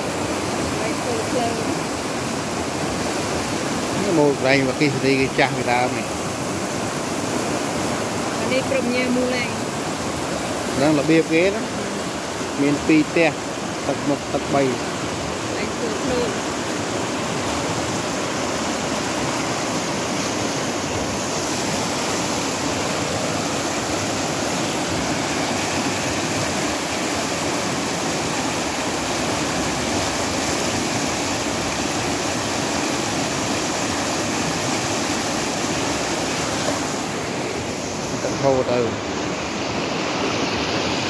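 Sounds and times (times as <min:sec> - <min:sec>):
river rapids rushing over rocks: 0:00.0 - 0:41.0.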